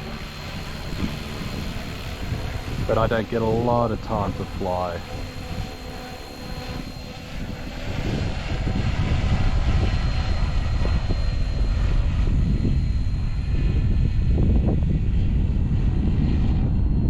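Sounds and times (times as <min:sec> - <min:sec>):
rc helicopter rotor whine: 0:00.0 - 0:17.0.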